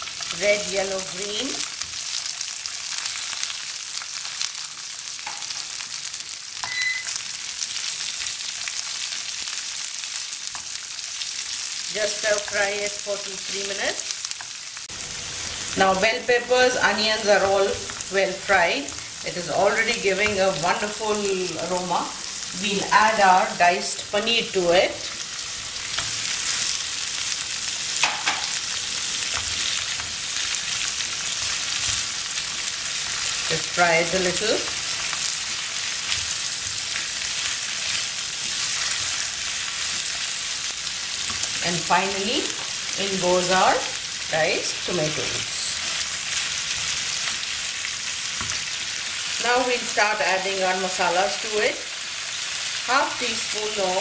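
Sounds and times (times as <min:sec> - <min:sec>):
vegetables sizzling in oil: 0:00.0 - 0:54.0.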